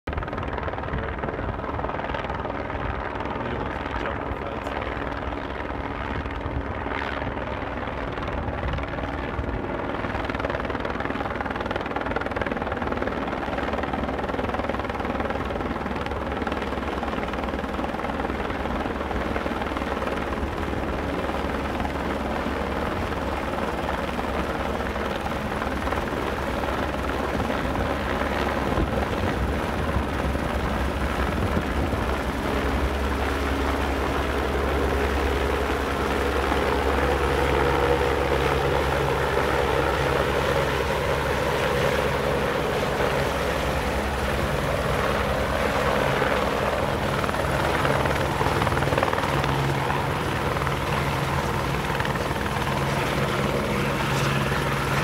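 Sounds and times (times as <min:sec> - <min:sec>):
helicopter rotor and engine whine: 0:00.0 - 0:55.0.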